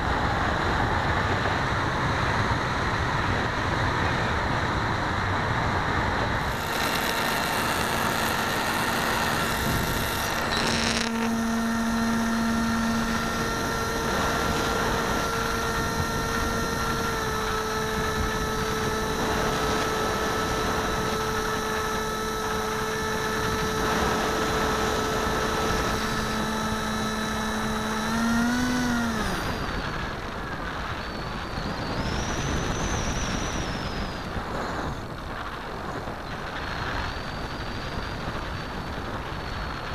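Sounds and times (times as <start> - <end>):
electric motor and propeller hum: 0.0 - 39.9
wind rushing over microphone: 0.0 - 39.9.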